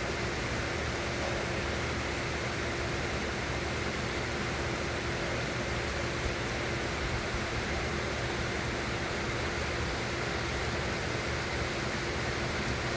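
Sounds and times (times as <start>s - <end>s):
faint steady hum: 0.0s - 12.9s
steady rain falling: 0.1s - 12.9s.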